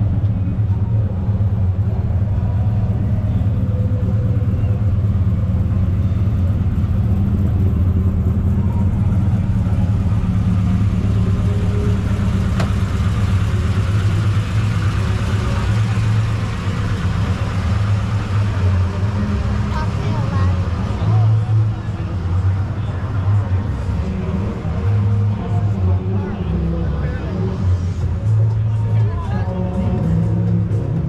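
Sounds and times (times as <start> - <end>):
car engine deep rumble: 0.0 - 31.0.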